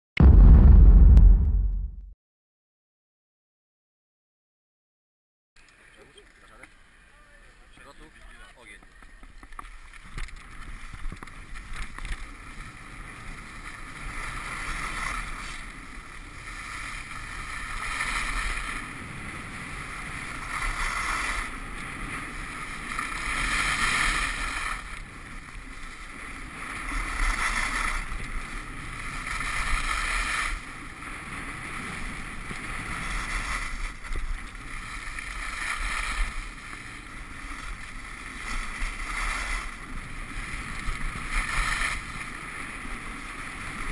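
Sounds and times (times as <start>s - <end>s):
skis scraping over snow: 7.8s - 43.9s.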